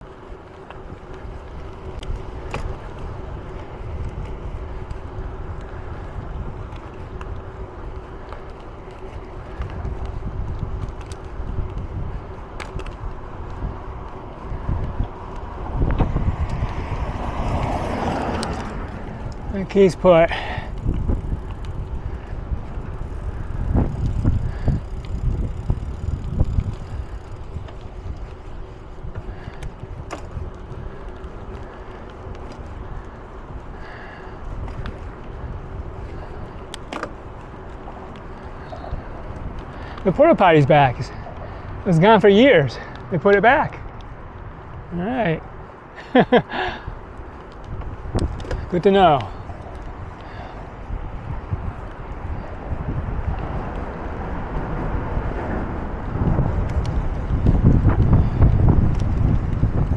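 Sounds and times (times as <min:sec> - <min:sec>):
bicycle tyre noise: 0:00.0 - 0:59.9
wind on microphone: 0:00.8 - 0:59.9.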